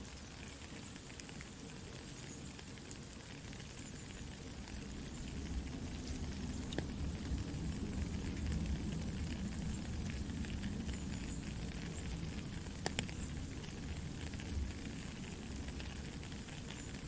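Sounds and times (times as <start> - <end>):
campfire crackling: 0.0 - 17.0
soft rain hissing: 0.0 - 17.0.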